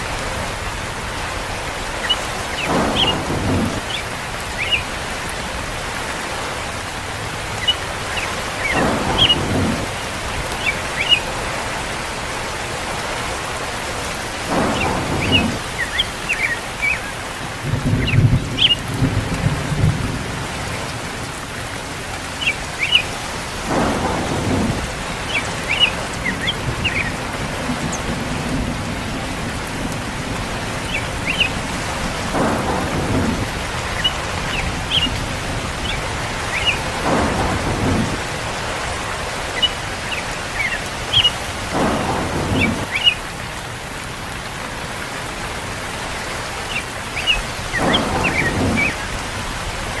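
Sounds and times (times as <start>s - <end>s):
low rumbles of thunder: 0.0s - 50.0s
steady rain: 0.0s - 50.0s.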